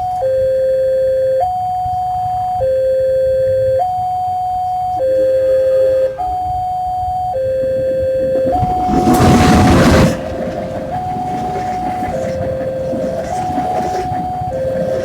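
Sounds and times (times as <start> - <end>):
two-tone electronic warning alarm: 0.0 - 15.0.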